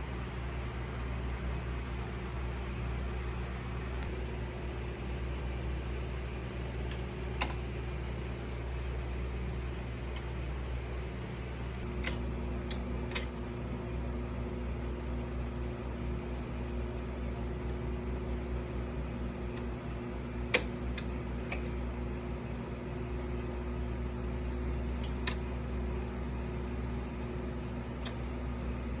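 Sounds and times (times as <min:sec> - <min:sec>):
turntable mechanical hum: 0:00.0 - 0:29.0.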